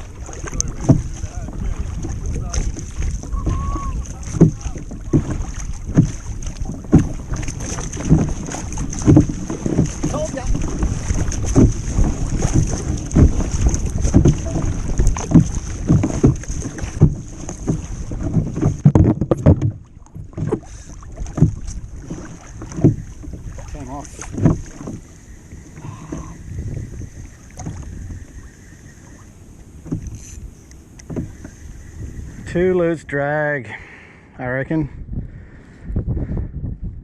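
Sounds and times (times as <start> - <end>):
wind buffeting microphone: 0.0 - 33.3, 34.4 - 37.0
water slapping against hull: 0.0 - 36.6.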